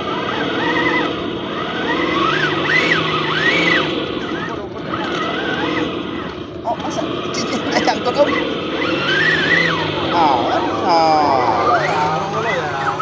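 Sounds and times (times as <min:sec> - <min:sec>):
toy car electric motor whining: 0:00.0 - 0:13.0.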